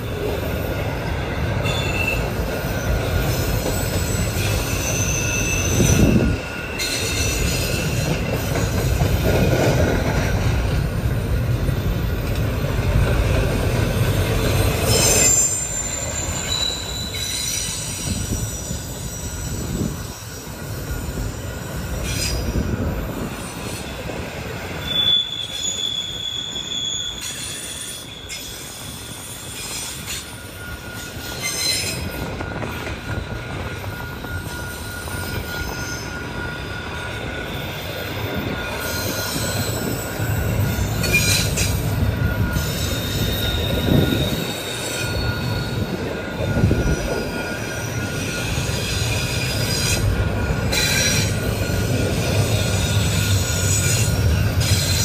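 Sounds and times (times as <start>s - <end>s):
train wheels rumbling on rail: 0.0s - 55.0s
high-pitched wheel squeals: 1.5s - 9.8s, 14.4s - 24.0s, 24.7s - 55.0s.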